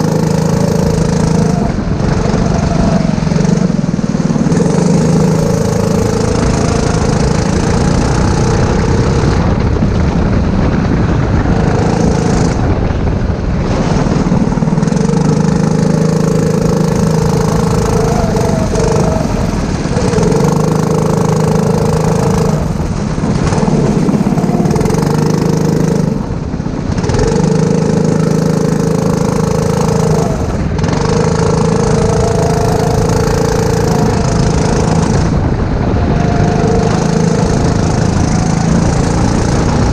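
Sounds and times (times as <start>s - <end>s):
go-kart engine revving high: 0.0s - 39.9s.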